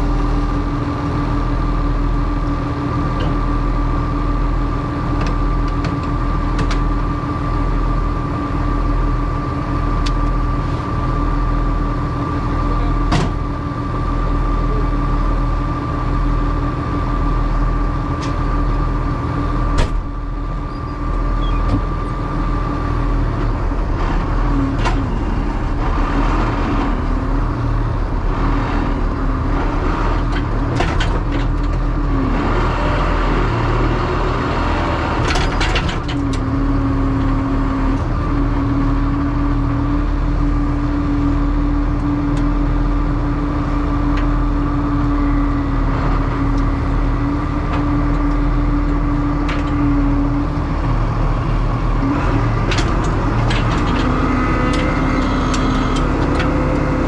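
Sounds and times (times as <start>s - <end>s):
farm machinery humming: 0.0s - 57.0s.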